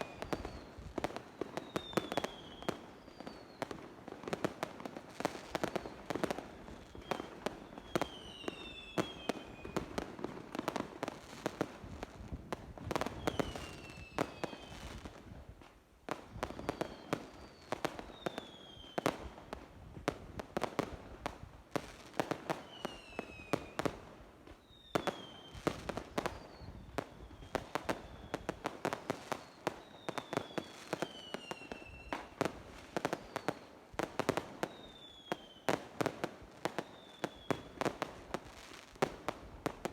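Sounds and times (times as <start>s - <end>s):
falling firework whistles: 0.0s - 15.2s, 16.3s - 19.6s, 21.9s - 39.9s
fireworks bangs and crackles: 0.0s - 39.9s.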